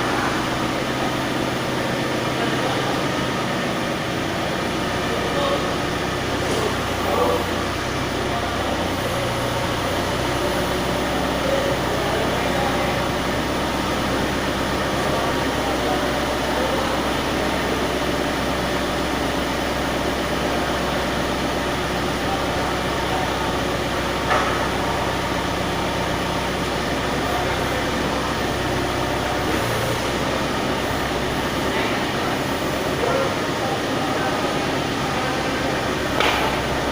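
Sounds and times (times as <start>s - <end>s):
engine humming steadily: 0.0s - 36.9s.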